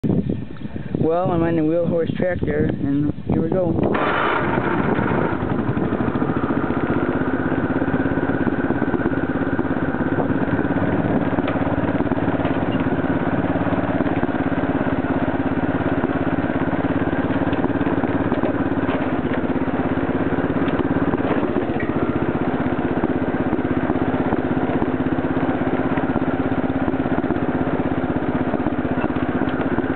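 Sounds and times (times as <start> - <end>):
garden tractor engine running: 0.4 - 29.9.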